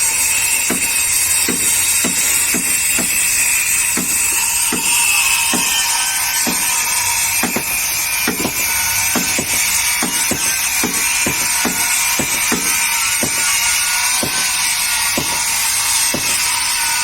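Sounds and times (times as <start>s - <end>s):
high-pitched machinery whir: 0.0s - 17.0s
hammer blows on wood: 0.3s - 17.0s.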